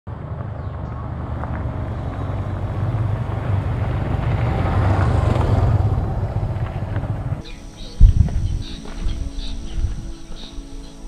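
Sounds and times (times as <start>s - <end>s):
motorcycle engines approaching: 0.1s - 10.5s.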